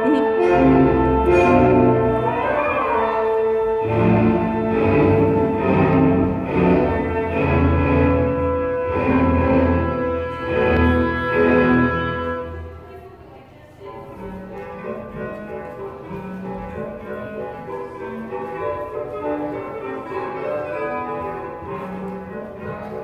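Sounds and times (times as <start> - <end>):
orchestral music with strings: 0.0 - 23.0.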